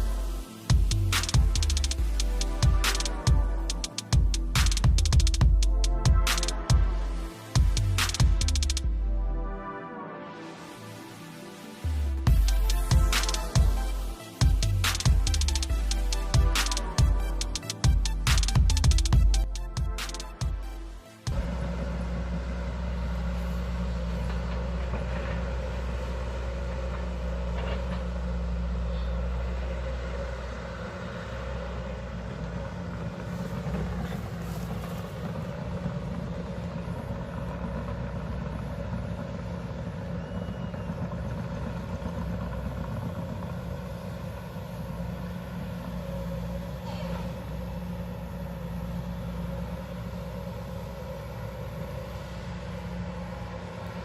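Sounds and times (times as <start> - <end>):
excavator diesel engine running: 0.0 - 8.8, 11.9 - 54.0.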